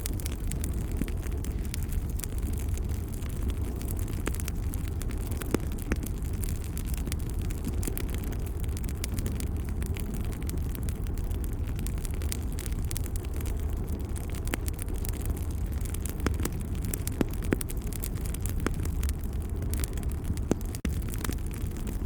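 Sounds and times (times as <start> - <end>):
wood fire burning: 0.0 - 22.0.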